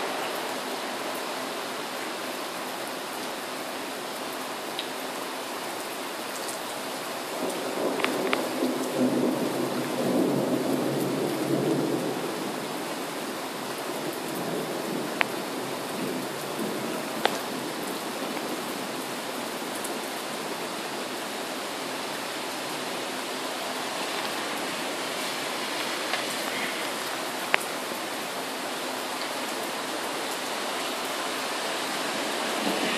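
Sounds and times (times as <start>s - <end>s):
heavy rain hiss: 0.0s - 32.9s.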